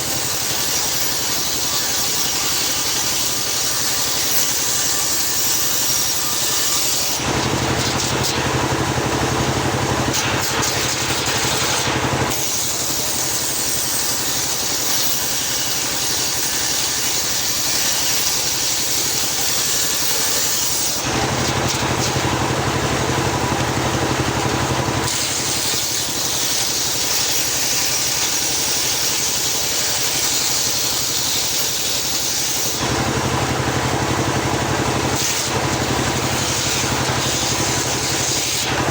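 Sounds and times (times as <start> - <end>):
saw blade cutting wood: 0.0 - 38.9
sawmill engine drone: 0.0 - 38.9.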